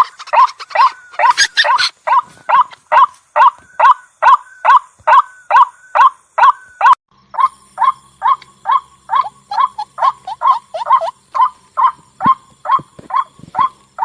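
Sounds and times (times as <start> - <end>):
waterhen calling: 0.0 - 13.8.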